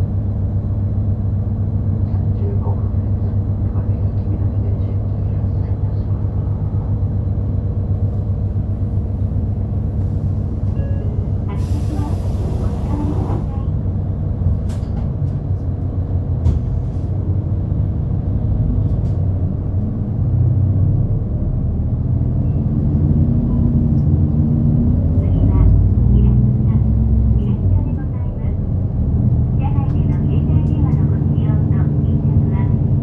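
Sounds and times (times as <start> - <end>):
bus engine running: 0.0 - 33.0.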